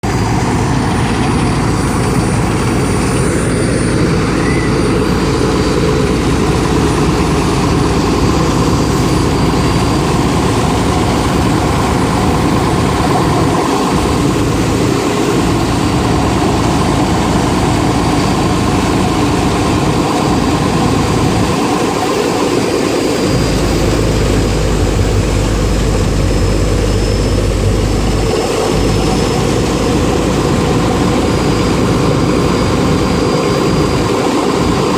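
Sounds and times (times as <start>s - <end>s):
ferry engine droning: 0.0s - 34.9s.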